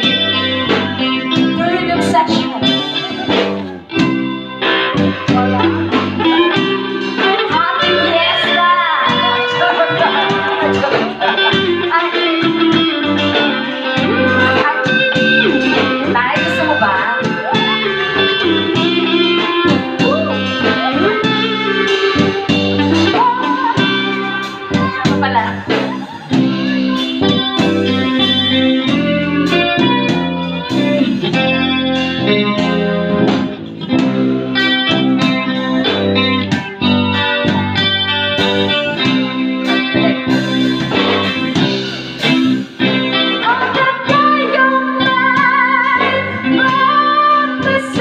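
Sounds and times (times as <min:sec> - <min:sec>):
bass guitar: 0:00.0 - 0:48.0
drum kit beat: 0:00.0 - 0:48.0
electric guitar lead: 0:00.0 - 0:48.0.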